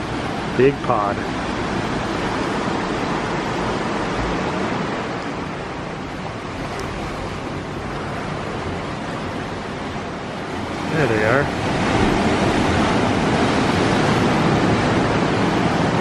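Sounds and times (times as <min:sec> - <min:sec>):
surf washing over rocks: 0:00.0 - 0:16.0
wind rumble on microphone: 0:00.0 - 0:16.0.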